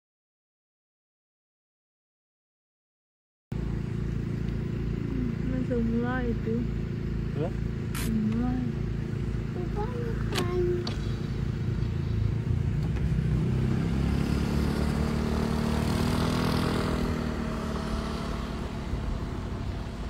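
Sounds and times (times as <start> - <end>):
engines running low: 3.6 - 20.0
motorcycle passing by: 3.6 - 20.0.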